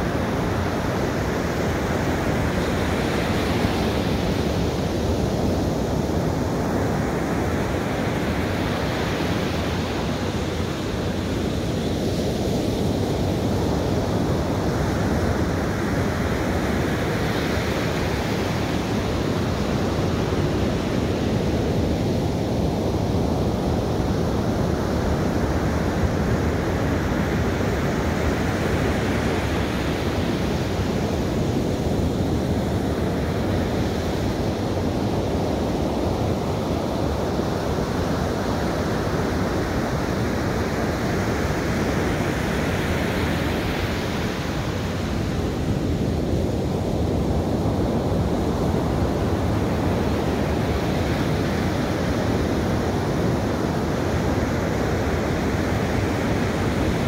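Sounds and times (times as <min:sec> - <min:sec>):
ocean waves breaking on sand: 0:00.0 - 0:57.0.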